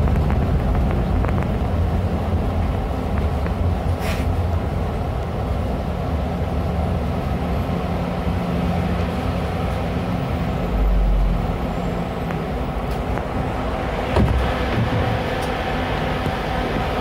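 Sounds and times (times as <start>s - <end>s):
bus engine drone: 0.0s - 17.0s
road noise: 0.0s - 17.0s.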